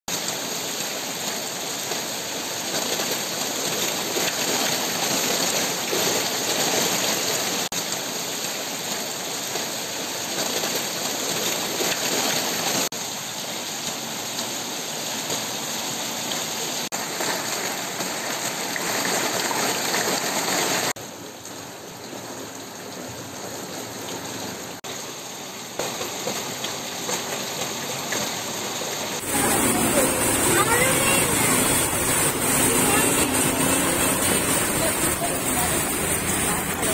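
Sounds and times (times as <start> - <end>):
heavy rain pouring: 0.1 - 36.9
running water: 0.1 - 36.9.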